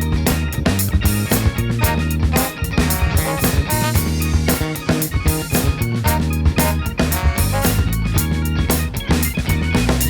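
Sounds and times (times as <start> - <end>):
instrumental funk-rock band: 0.0 - 10.0.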